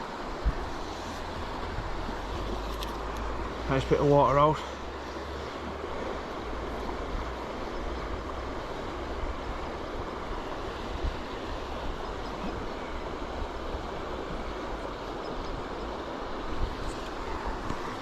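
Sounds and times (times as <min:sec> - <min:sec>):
river water rushing: 0:00.0 - 0:18.0
wind rumbling on microphone: 0:00.0 - 0:18.0.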